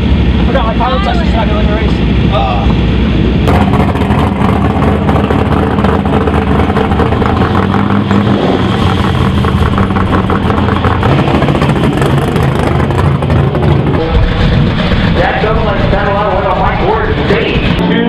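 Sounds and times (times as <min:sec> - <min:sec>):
car engine at low revs: 0:00.0 - 0:18.0.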